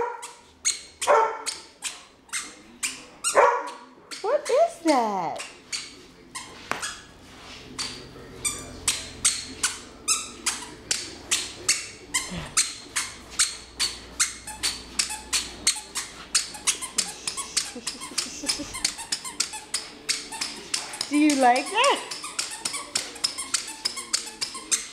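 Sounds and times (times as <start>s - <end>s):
squeaky shoes squeaking: 0.0s - 4.7s, 5.3s - 24.9s.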